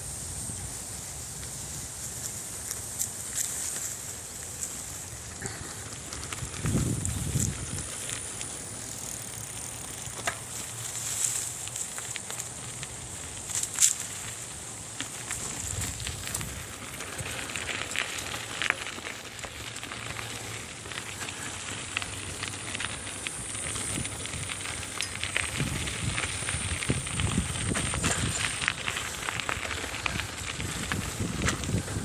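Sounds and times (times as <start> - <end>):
bicycle tyres rolling on dirt: 0.0 - 32.0
small clicks from grit: 1.4 - 32.0.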